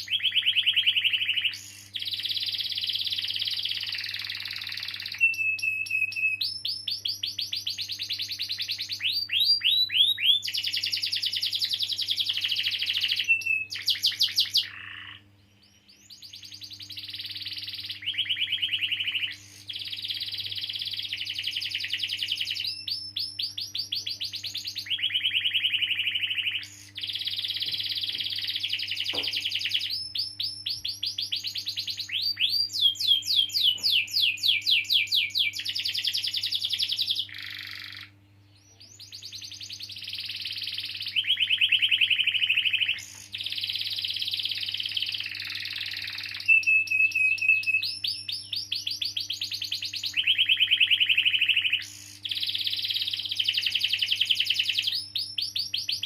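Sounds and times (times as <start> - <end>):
canary singing trills: 0.0 - 56.0
faint steady hum: 0.0 - 56.0.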